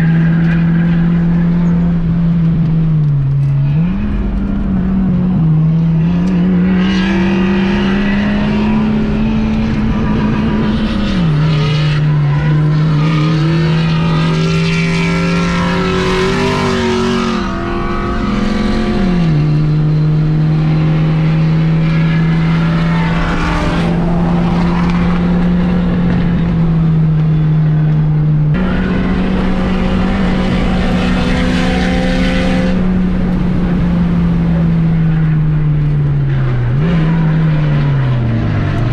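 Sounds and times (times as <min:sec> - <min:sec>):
car engine revving high: 0:00.0 - 0:38.9
other engines and tires: 0:00.0 - 0:38.9.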